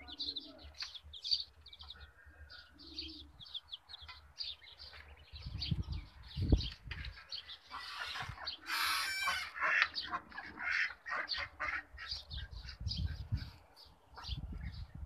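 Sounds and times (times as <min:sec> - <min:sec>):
chickens and ducks calling: 0:00.0 - 0:15.0.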